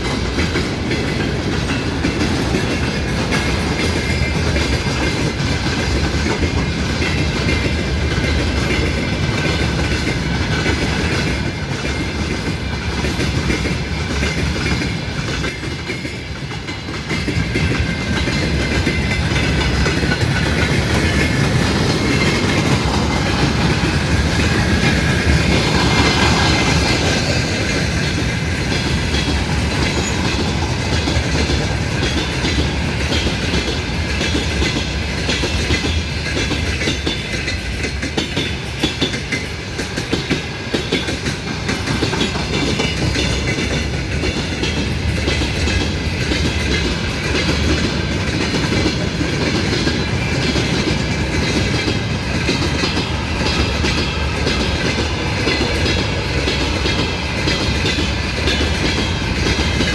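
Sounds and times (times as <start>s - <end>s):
train rumbling past: 0.0s - 59.9s
wheels clicking over rail joints: 0.0s - 59.9s.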